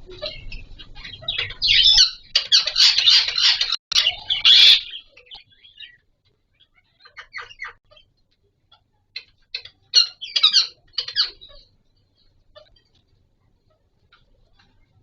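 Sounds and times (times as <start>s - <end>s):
parakeets chattering: 0.0s - 15.0s.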